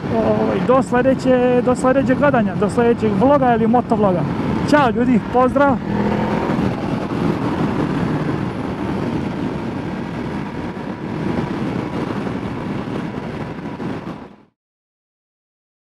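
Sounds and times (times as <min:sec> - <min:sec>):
motorcycle engine cruising: 0:00.0 - 0:14.5
wind rush on microphone: 0:00.0 - 0:14.5.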